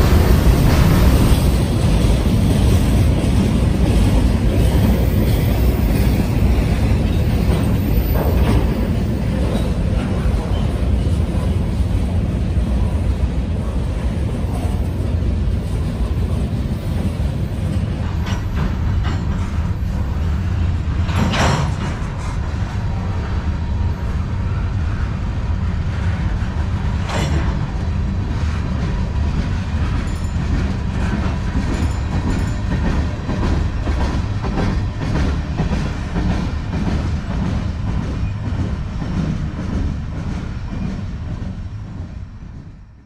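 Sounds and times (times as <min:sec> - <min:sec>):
train car clacks: 0:00.0 - 0:12.9, 0:13.6 - 0:22.6, 0:26.5 - 0:42.8
train wheels rumbling on rail: 0:00.0 - 0:43.0.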